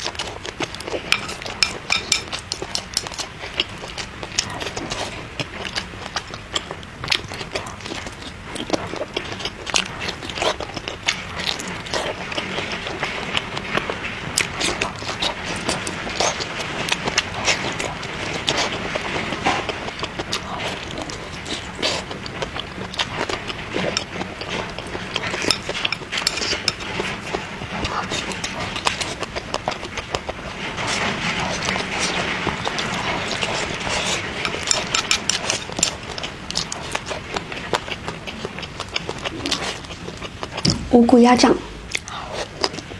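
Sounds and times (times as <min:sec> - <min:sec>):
person chewing food: 0:00.0 - 0:40.9, 0:41.7 - 0:42.9.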